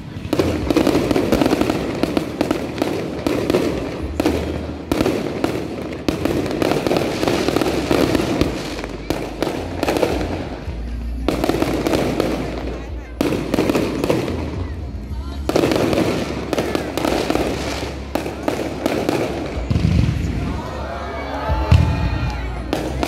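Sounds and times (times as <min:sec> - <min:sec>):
fireworks bangs: 0:00.0 - 0:20.8, 0:21.5 - 0:23.0
fireworks crackling: 0:00.0 - 0:23.0.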